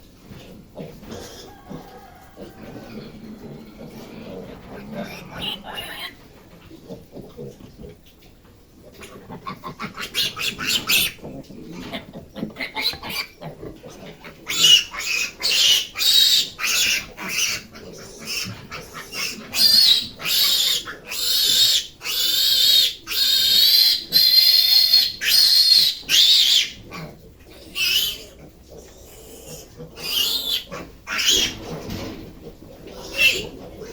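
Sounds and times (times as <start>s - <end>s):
piglets squealing: 1.1s - 6.3s, 9.0s - 11.2s, 11.8s - 31.8s, 32.9s - 33.9s.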